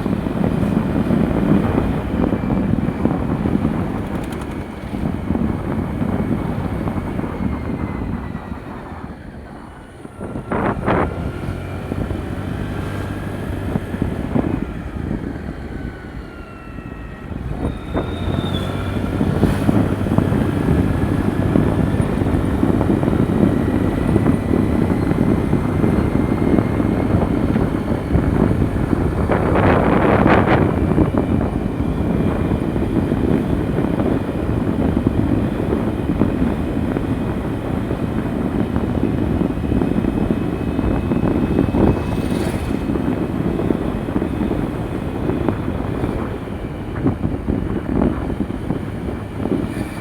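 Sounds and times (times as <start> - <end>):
scooter engine rumble: 0.0 - 50.0
wind buffeting microphone: 0.0 - 50.0.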